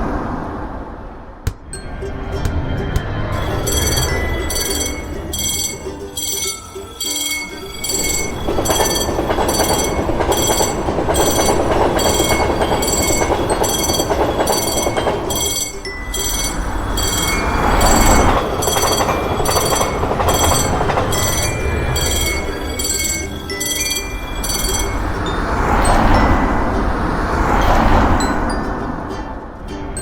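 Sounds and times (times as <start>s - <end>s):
train passing: 0.0s - 30.0s
level crossing warning bell: 1.8s - 29.1s.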